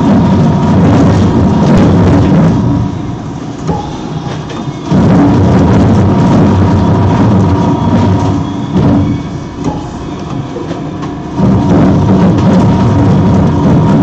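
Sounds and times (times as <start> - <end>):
motor hum: 0.0 - 14.0.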